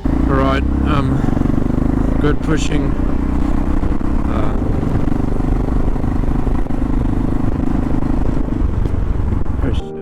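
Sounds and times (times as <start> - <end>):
motorcycle engine running: 0.0 - 10.0
wind and road noise: 0.0 - 10.0.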